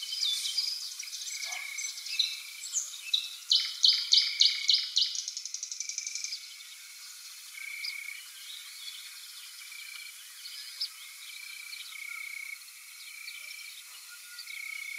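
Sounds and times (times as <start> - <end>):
faint bird chirps: 0.0 - 14.9
songbird rapid trill: 0.0 - 14.9.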